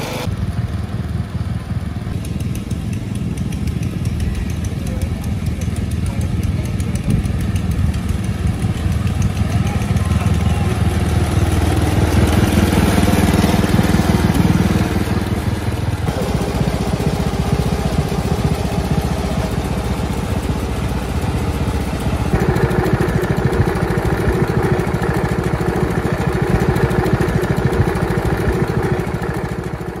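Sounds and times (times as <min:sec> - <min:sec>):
garden tractor engine running: 0:00.0 - 0:30.0.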